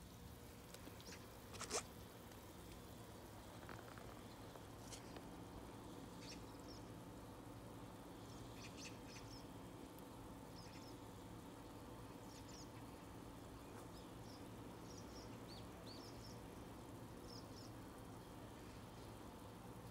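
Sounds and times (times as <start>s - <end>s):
small birds chirping: 0.3s - 1.8s, 2.6s - 19.9s.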